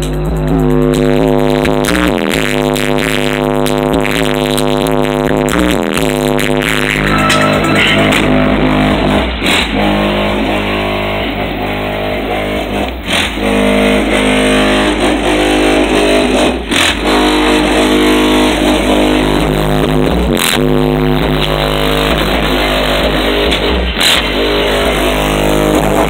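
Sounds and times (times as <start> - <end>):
distorted bass music from car: 0.0 - 26.0.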